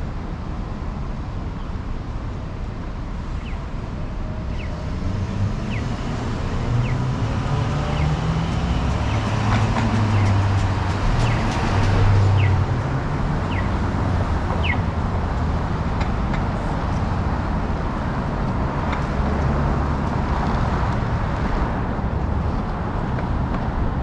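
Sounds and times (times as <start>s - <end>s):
passing cars: 0.0s - 24.0s
engine hum: 2.6s - 24.0s.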